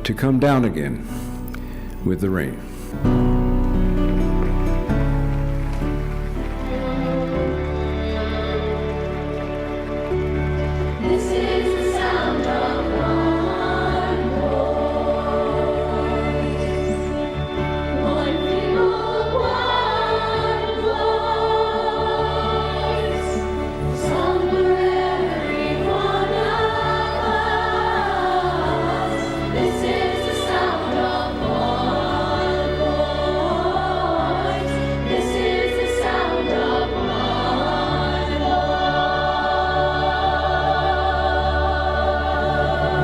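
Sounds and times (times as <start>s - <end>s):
instrumental accompaniment: 0.0s - 43.0s
choral singing: 2.8s - 43.0s.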